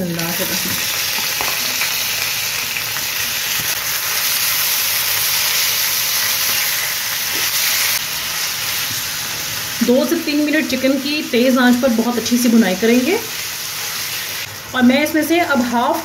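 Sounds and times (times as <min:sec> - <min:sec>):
chicken sizzling in frying pan: 0:00.0 - 0:16.0.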